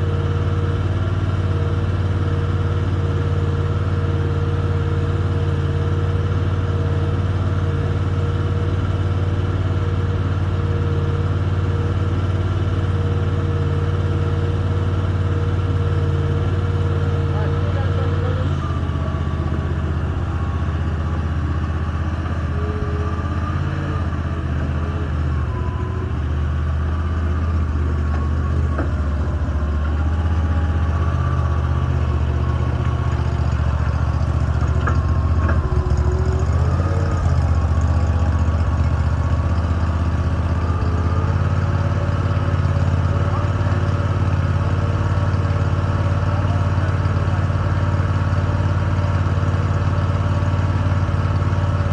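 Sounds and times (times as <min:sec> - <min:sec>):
large engine idling: 0:00.0 - 0:51.9.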